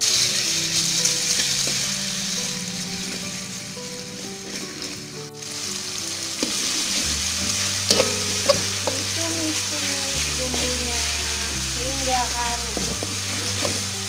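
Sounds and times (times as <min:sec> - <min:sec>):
spice paste sizzling in oil: 0:00.0 - 0:14.0.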